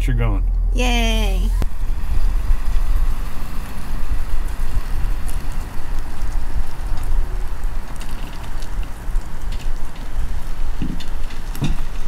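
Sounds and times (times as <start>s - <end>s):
road and wind hiss: 0.0s - 12.0s
vehicle low rumble: 0.0s - 12.0s.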